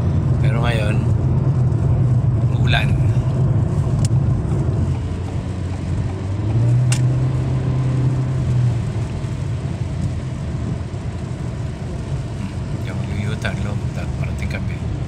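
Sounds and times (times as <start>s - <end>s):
engine and road noise drone: 0.0s - 15.0s.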